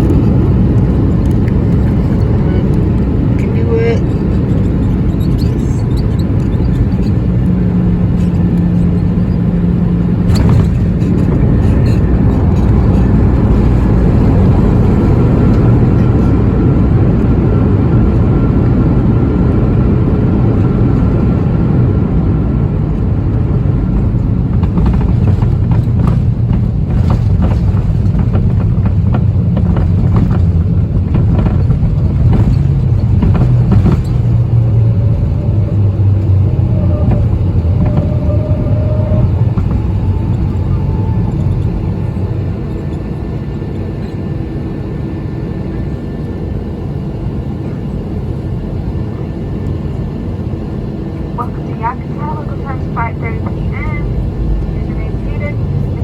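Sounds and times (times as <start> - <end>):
jet engine rumble in cabin: 0.0 - 56.0.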